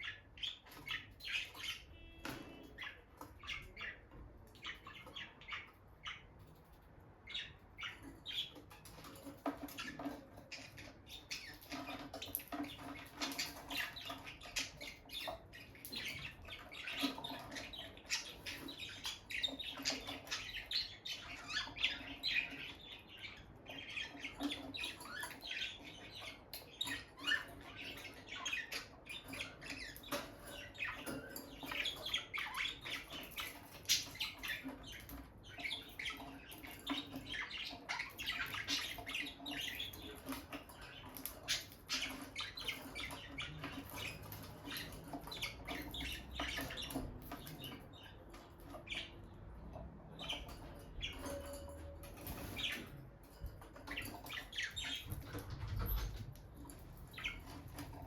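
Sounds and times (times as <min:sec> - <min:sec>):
lovebirds chirping and squawking: 0:00.0 - 0:58.0.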